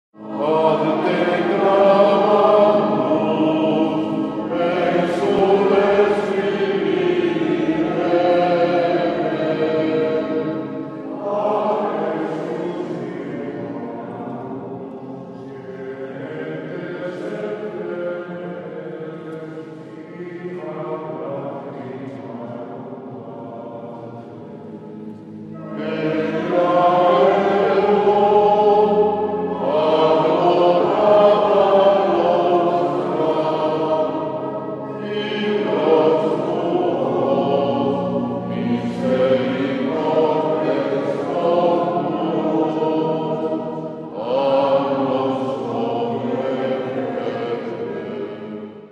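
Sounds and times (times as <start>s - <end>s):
voices singing a church chant: 0.2s - 48.9s.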